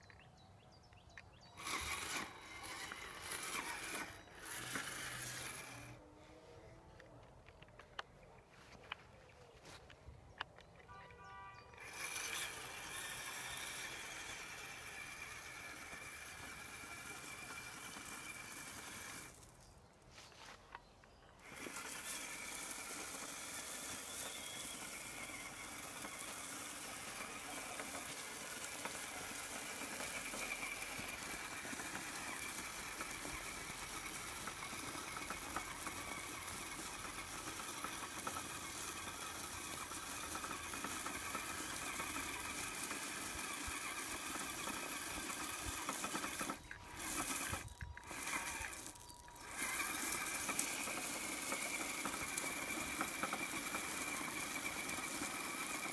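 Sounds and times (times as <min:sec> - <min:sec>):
gravel rattling under tyres: 0:00.0 - 0:55.9
electric motor whining: 0:01.4 - 0:07.6, 0:10.8 - 0:19.8, 0:21.4 - 0:55.9.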